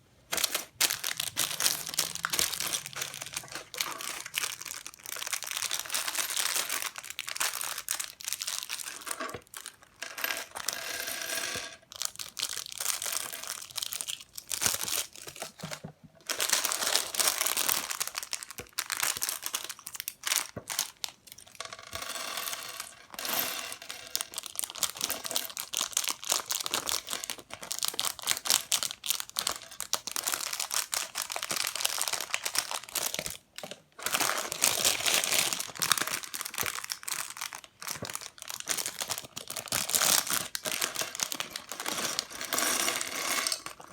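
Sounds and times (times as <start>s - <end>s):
plastic bags crinkling: 0.3s - 10.8s, 11.8s - 21.6s, 23.8s - 43.9s.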